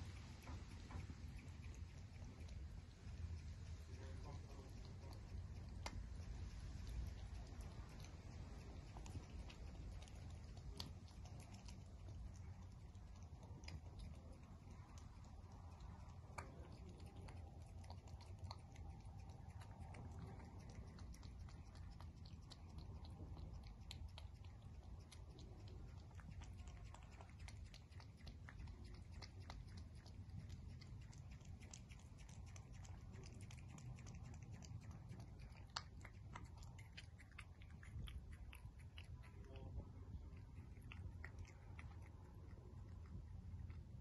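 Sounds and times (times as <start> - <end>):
cat chewing wet food: 0.0 - 44.0.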